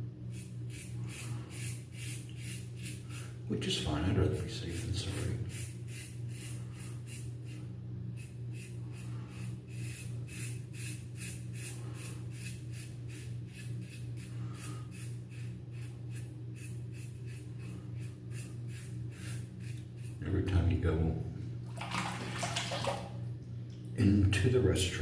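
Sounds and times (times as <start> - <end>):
steady low hum: 0.0 - 25.0
razor scraping stubble: 0.3 - 20.6.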